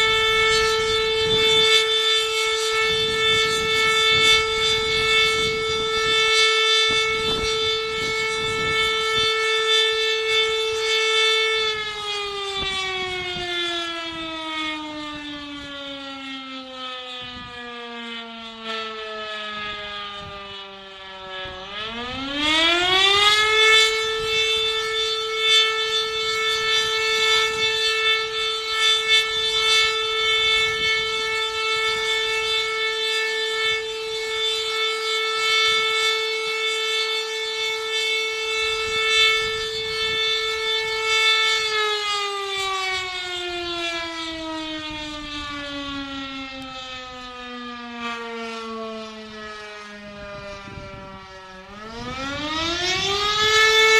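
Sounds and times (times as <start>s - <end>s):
electromechanical alarm siren: 0.0s - 53.9s.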